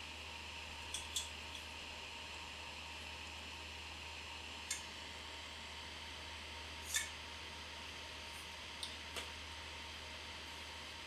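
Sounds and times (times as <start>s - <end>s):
room tone hiss: 0.0s - 11.0s.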